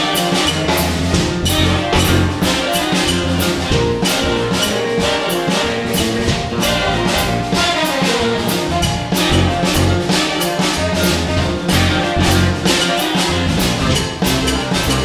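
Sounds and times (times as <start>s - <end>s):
jazz band with horn section: 0.0s - 15.0s
steady drum beat: 0.0s - 15.0s.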